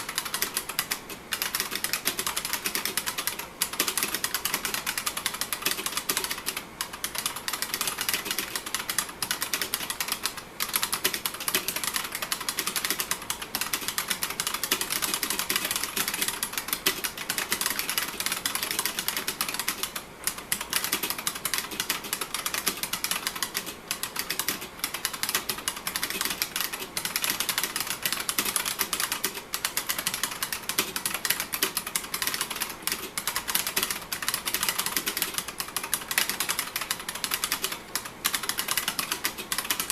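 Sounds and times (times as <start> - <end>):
keyboard clicking as typed on: 0.0 - 39.9.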